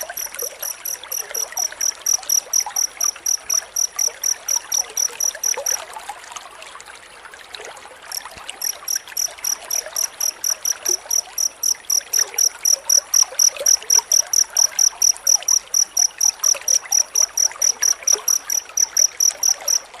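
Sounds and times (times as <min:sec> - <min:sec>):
cricket chirping: 0:00.0 - 0:05.8, 0:08.1 - 0:20.0.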